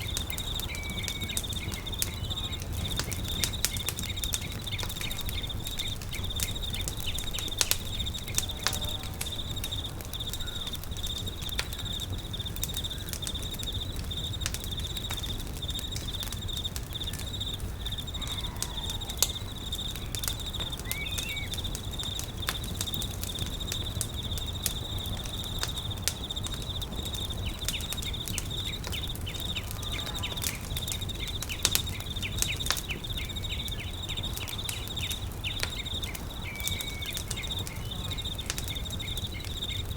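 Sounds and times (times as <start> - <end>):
campfire crackling and popping: 0.0 - 39.9
high-pitched insect trill: 0.0 - 39.9.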